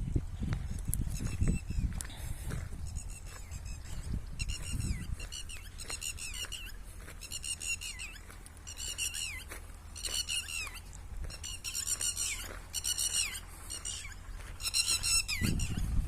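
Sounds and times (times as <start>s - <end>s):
bird calling in high phrases: 1.1s - 16.0s.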